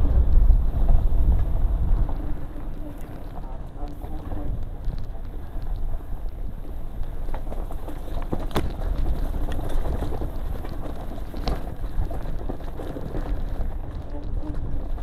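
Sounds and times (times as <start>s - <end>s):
bike rattling: 0.0s - 15.0s
steady rumble: 0.0s - 15.0s
tyres crunching on loose rock: 0.9s - 15.0s.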